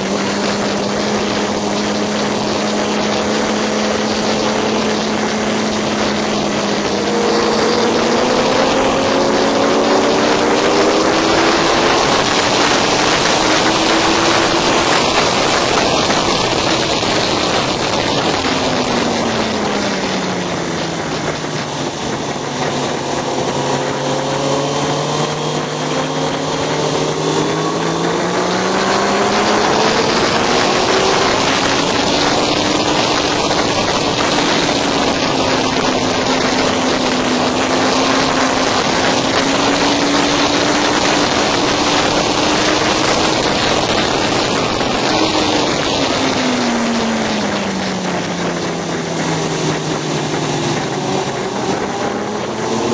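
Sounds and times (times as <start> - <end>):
motorcycle engine: 0.0 - 52.9
wind rush over microphone: 0.0 - 52.9.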